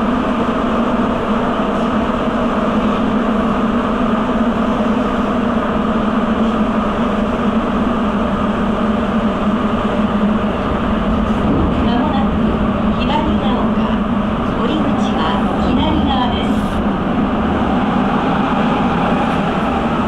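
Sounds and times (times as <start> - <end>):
steady low hum: 0.0 - 20.0
subway train rumbling: 0.0 - 20.0.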